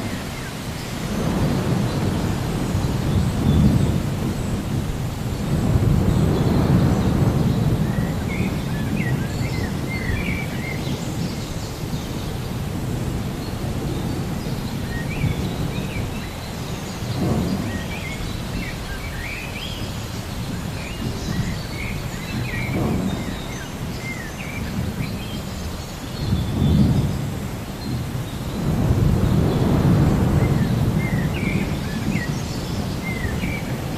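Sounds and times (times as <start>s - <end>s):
rolling thunder: 0.0s - 33.9s
small birds chirping: 0.0s - 33.9s
steady rain: 0.0s - 33.9s.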